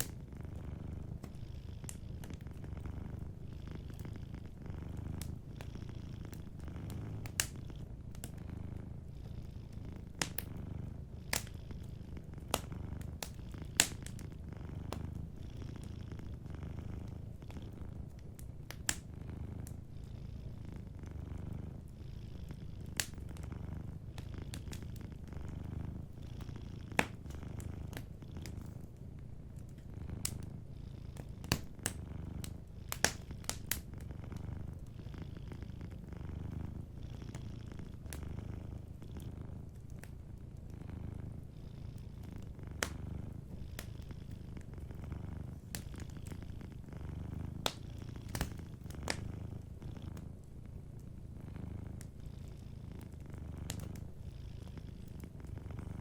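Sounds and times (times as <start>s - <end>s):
wood fire crackling and popping: 0.0s - 50.7s, 53.0s - 54.2s
cat purring: 0.0s - 56.0s.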